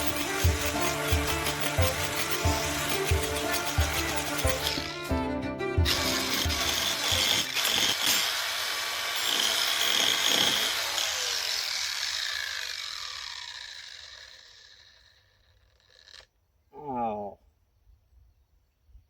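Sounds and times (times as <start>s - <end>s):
angle grinder on wood: 0.0s - 16.4s.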